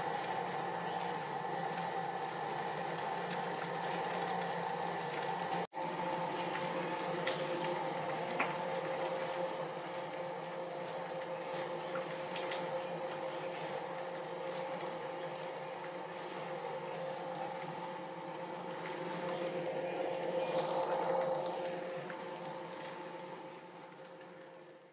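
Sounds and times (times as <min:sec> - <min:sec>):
constant low hum: 0:00.0 - 0:24.9
rain falling on foliage: 0:00.1 - 0:24.9.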